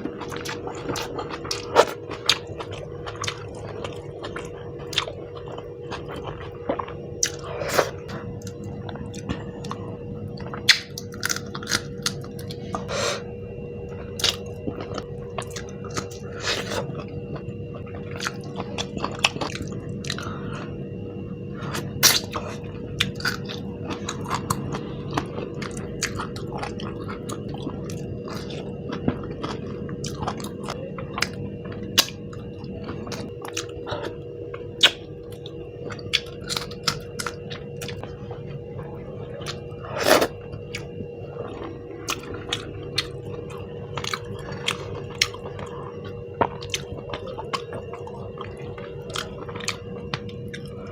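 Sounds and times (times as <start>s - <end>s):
chewing and biting food: 0.0s - 12.9s, 13.9s - 20.8s, 21.6s - 50.9s
faint steady hum: 0.0s - 50.9s.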